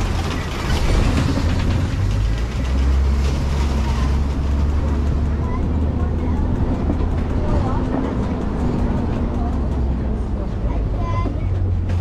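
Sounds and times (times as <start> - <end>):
truck clatter: 0.0 - 12.0
truck engine running: 0.0 - 12.0.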